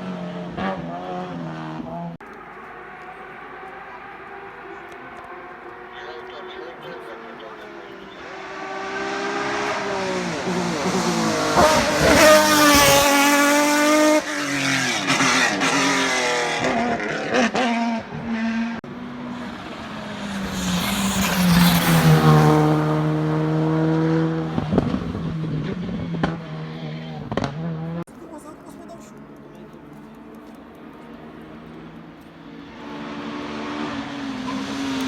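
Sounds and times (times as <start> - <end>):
race car engine at full throttle: 0.0 - 35.0.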